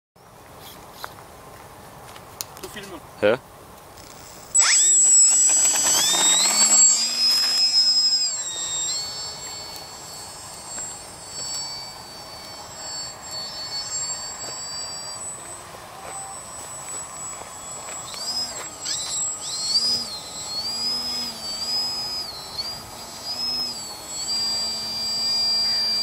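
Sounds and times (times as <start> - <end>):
model plane motor whining: 4.0 - 26.0.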